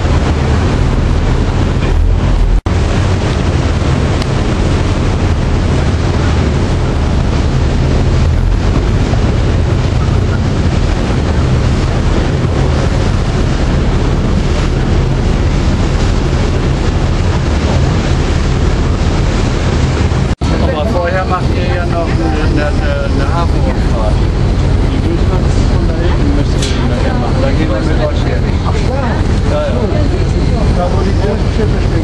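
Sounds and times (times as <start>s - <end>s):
boat engine rumble: 0.0s - 32.0s
rushing water: 0.0s - 32.0s
wind buffeting microphone: 0.0s - 32.0s.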